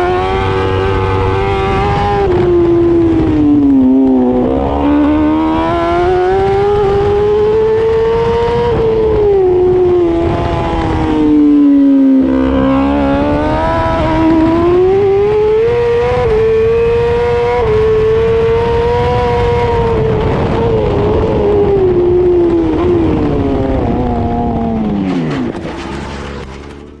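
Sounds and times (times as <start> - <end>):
motorcycle engine at speed: 0.0 - 27.0.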